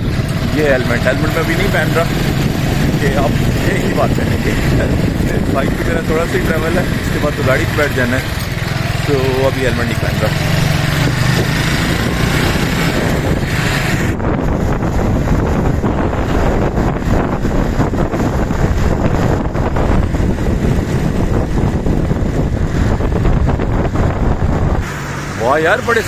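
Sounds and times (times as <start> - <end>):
wind buffeting on microphone: 0.0 - 24.9
motorcycle engine and road rumble: 0.0 - 26.0.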